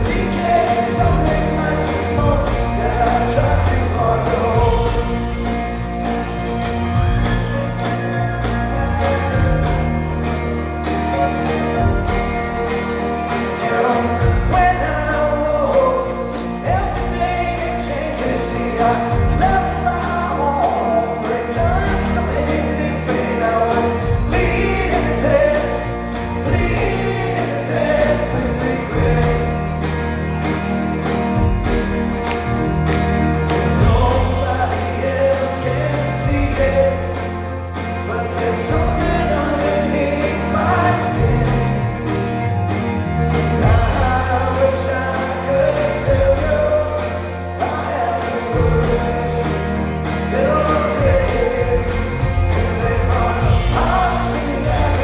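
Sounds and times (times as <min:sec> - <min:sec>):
person singing lead vocal: 0:00.0 - 0:42.4, 0:43.1 - 0:55.0
live rock band playing: 0:00.0 - 0:55.0.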